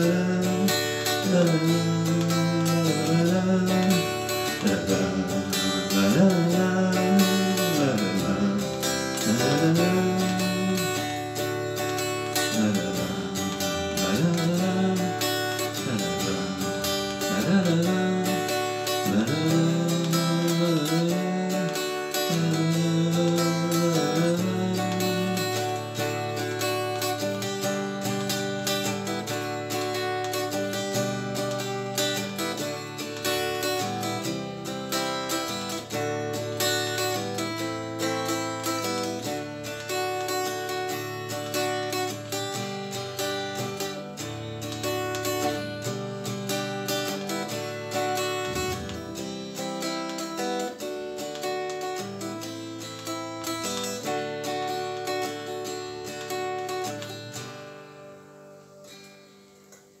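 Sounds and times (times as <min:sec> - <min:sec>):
guitar strumming chords: 0:00.0 - 1:00.0.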